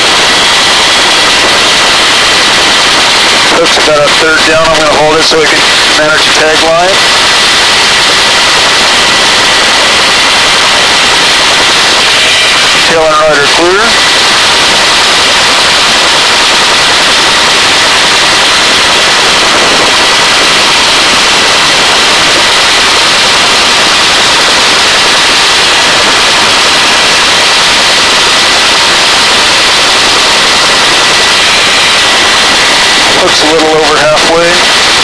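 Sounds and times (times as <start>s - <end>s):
faint steady whine: 0.0s - 35.0s
helicopter rotor and wind noise: 0.0s - 35.0s.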